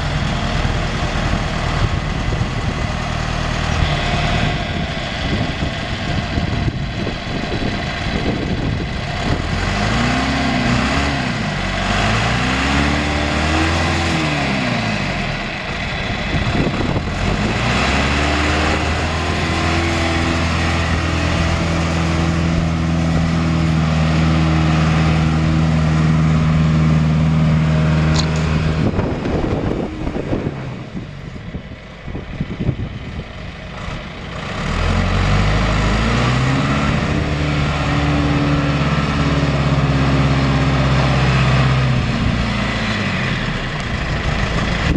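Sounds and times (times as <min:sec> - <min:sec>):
backhoe engine revving: 0:00.0 - 0:44.9.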